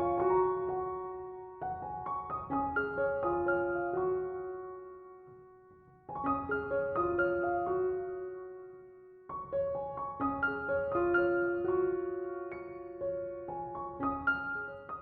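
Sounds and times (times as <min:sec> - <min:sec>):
soft piano-like keyboard music: 0:00.0 - 0:15.0.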